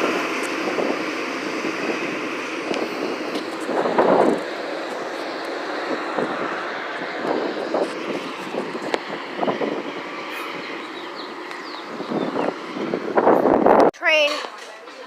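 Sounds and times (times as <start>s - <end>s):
passing vehicle rushing: 0.0s - 13.9s.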